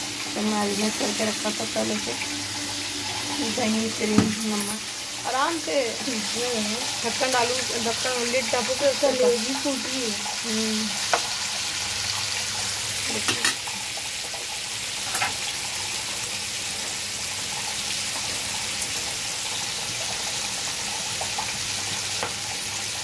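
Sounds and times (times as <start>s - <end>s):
chicken frying in oil: 0.0s - 23.0s.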